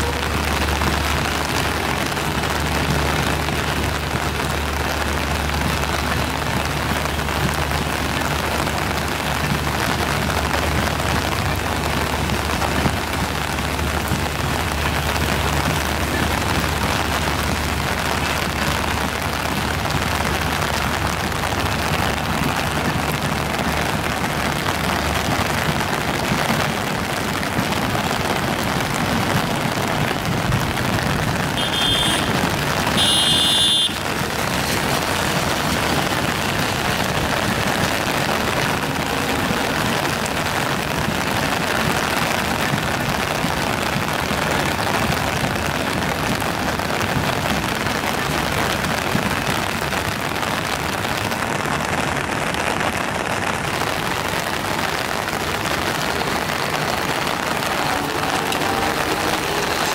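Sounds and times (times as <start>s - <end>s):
passenger coaches rolling on rails: 0.0s - 59.9s
rain falling: 0.0s - 59.9s.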